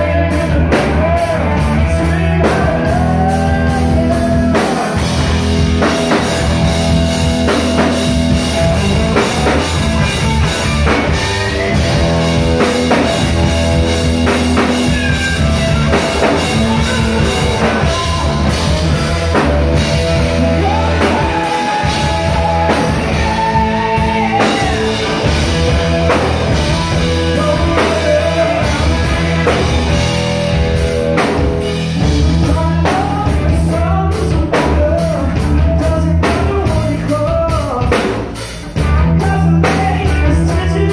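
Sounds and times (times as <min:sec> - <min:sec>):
drum kit: 0:00.0 - 0:40.9
electric bass: 0:00.0 - 0:40.9
electric guitar: 0:00.0 - 0:40.9
man singing: 0:00.0 - 0:40.9.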